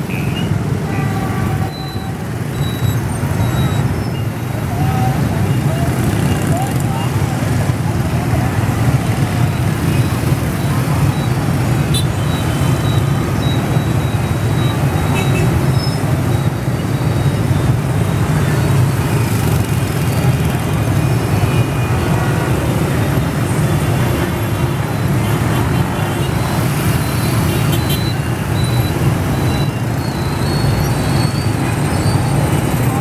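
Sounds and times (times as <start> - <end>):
motorbikes and scooters passing: 0.0 - 33.0.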